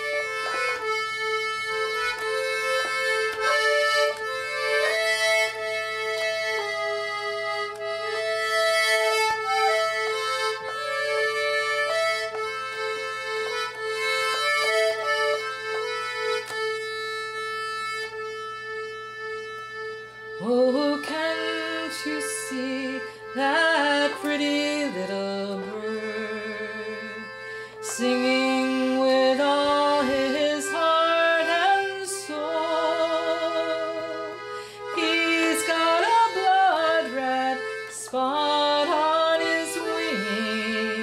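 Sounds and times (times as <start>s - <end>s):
accordion playing folk melody: 0.0s - 41.0s.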